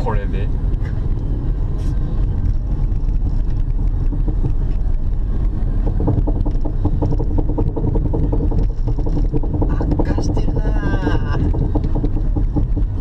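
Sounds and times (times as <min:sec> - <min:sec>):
rapid rhythmic wheel clunking: 0:00.0 - 0:13.0
road and tyre rumble: 0:00.0 - 0:13.0.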